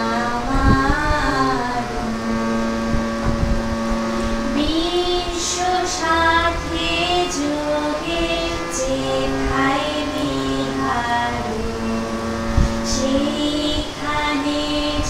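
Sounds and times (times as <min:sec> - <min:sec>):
woman singing slow melody: 0:00.0 - 0:02.3, 0:04.4 - 0:15.0.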